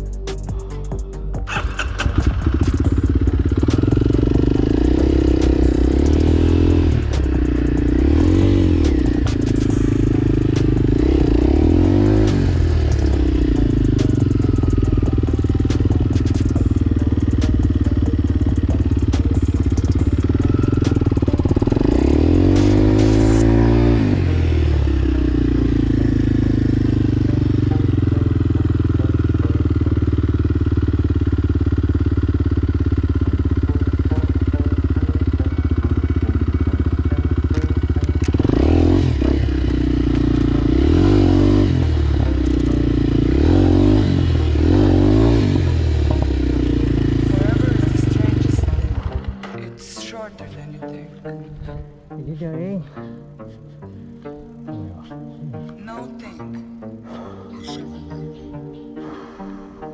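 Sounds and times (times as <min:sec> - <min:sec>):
motorcycle engine revving: 0:01.3 - 0:50.1.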